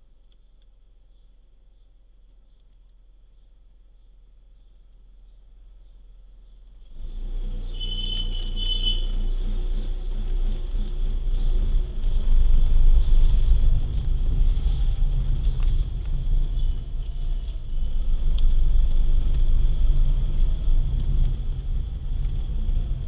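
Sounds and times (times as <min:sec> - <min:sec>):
car driving on road: 0:00.0 - 0:23.0.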